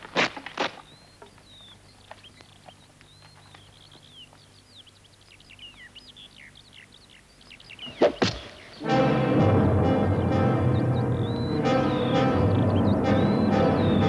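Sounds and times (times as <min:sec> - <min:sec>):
small birds chirping: 0:00.6 - 0:08.9, 0:10.0 - 0:14.0.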